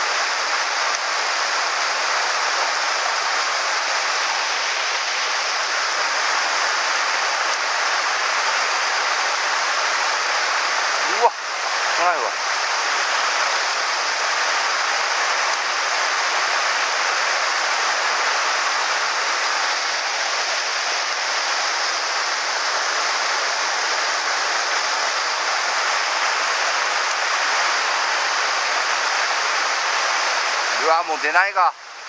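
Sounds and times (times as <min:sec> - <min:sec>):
stream rushing over rocks: 0:00.0 - 0:32.0.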